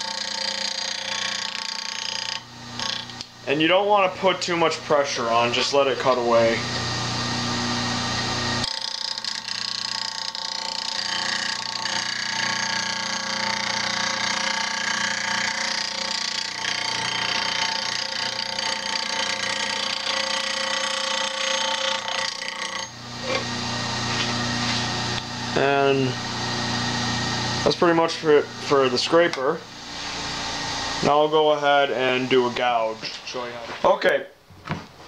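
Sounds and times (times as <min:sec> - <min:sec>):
bench grinder grinding steel: 0:00.0 - 0:33.2.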